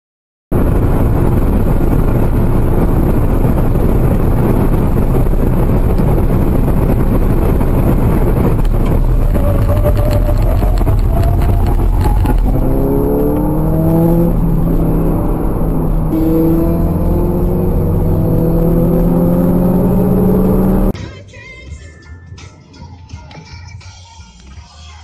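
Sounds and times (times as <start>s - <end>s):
car engine droning: 0.5s - 21.0s
wind and road noise in car: 0.5s - 21.0s.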